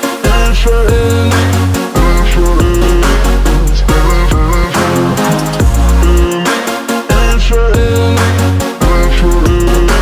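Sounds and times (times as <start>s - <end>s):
music with heavy bass and beat: 0.0s - 10.0s.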